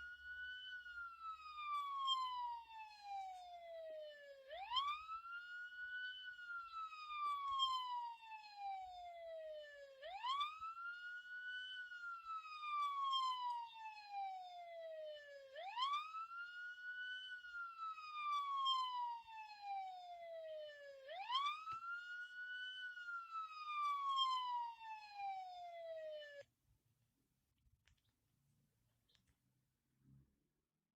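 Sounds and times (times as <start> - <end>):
police siren wailing: 0.0 - 26.4.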